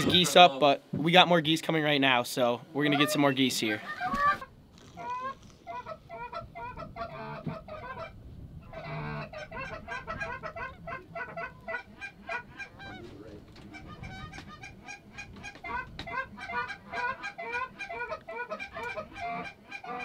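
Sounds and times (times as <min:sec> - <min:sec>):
geese honking and clucking: 0:00.0 - 0:00.8, 0:02.7 - 0:20.0.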